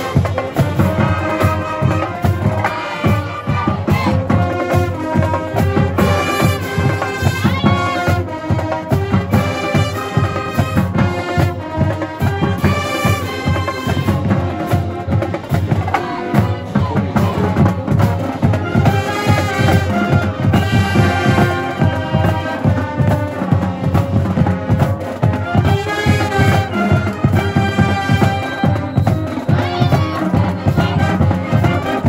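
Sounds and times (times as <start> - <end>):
saxophones: 0.0 - 32.0
steady drum beat: 0.0 - 32.0
trumpets: 0.0 - 32.0.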